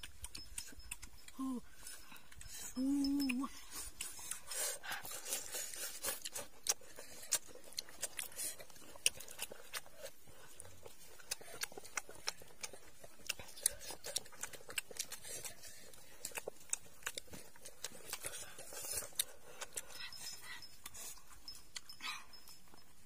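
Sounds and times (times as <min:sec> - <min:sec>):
person chewing with mouth open: 0:00.0 - 0:23.0.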